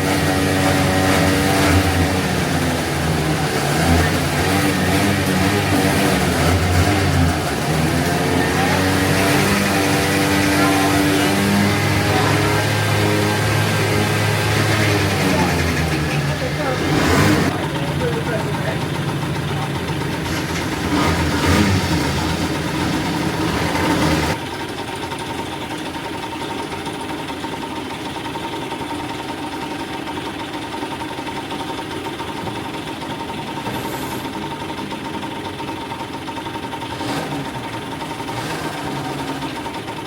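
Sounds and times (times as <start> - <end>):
go-kart engines idling: 0.0 - 40.0.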